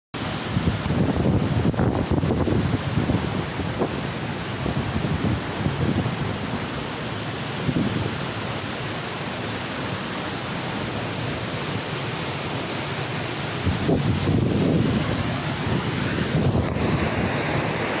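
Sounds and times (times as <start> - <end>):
waterfall roaring: 0.2 - 18.0
wind buffeting microphone: 0.3 - 18.0.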